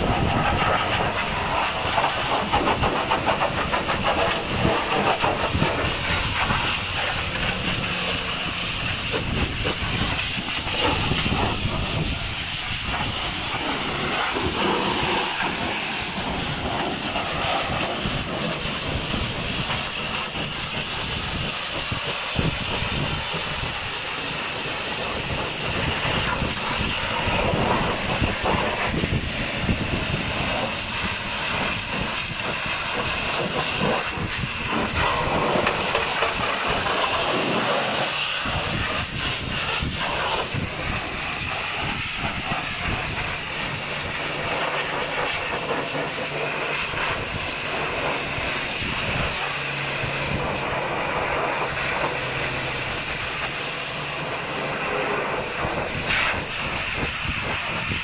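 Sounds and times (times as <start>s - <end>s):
pressure washer spraying: 0.0s - 58.0s.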